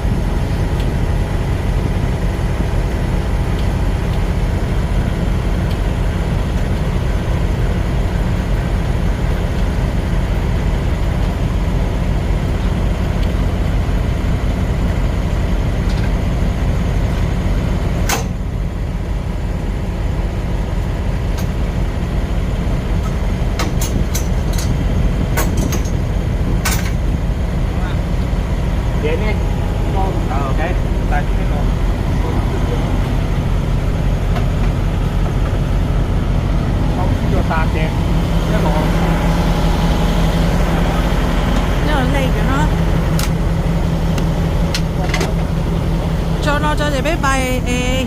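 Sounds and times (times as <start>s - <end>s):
truck engine and road drone: 0.0s - 48.0s.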